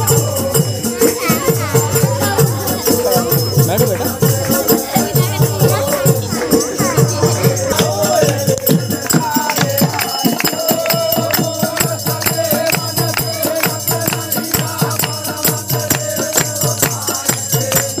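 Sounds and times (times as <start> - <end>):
hand drums fast beat: 0.0 - 18.0
jingling percussion: 0.0 - 18.0
men singing: 0.0 - 18.0.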